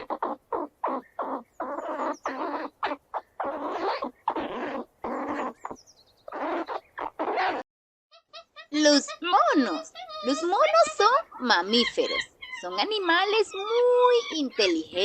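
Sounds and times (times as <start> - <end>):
squirrel chattering calls: 0.0 - 7.6, 8.2 - 15.0.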